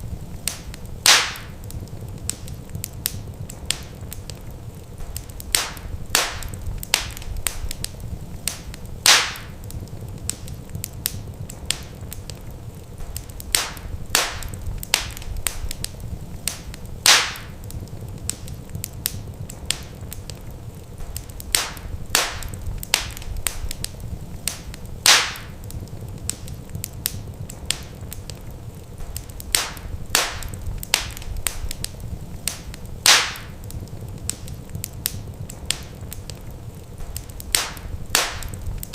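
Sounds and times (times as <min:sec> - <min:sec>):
low steady rumble: 0:00.0 - 0:38.9
wood fire crackling: 0:00.0 - 0:38.9.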